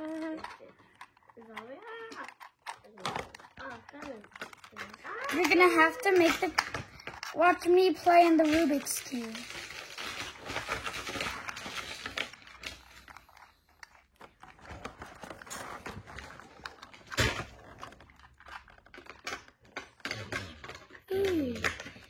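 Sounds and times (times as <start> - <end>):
puzzle cube plastic clicks: 0.0 - 22.0.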